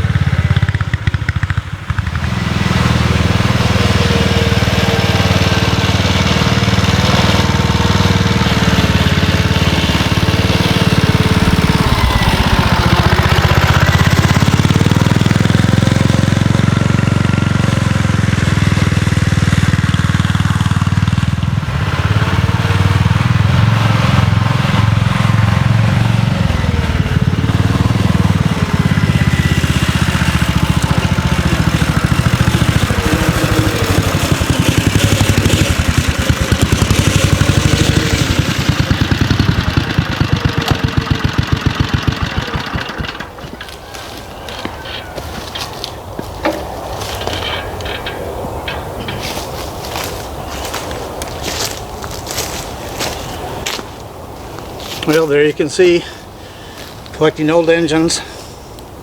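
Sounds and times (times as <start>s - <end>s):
scooter engine running: 0.0s - 57.1s.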